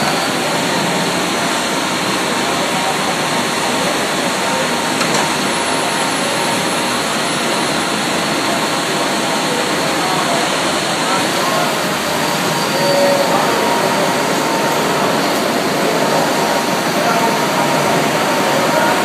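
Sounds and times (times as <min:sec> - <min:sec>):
coolant washing: 0:00.0 - 0:19.0
lathe running: 0:00.0 - 0:19.0.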